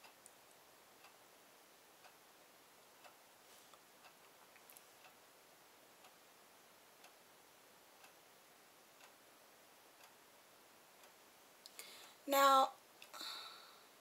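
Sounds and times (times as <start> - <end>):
clock ticking: 0.0 - 4.4, 5.0 - 14.0.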